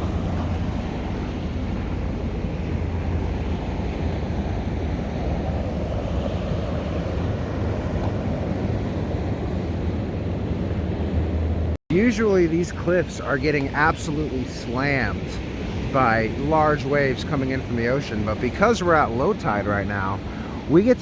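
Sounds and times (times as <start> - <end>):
surf on rocky shore: 0.0 - 21.0.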